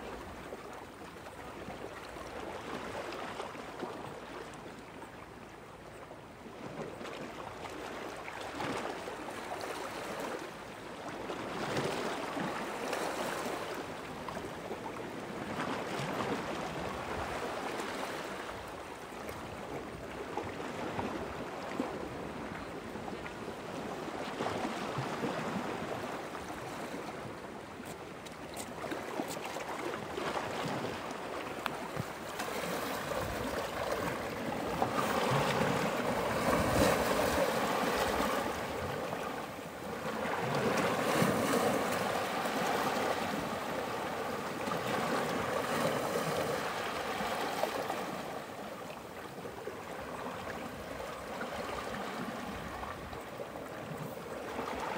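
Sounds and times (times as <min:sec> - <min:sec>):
sea water lapping and sloshing: 0:00.0 - 0:54.9.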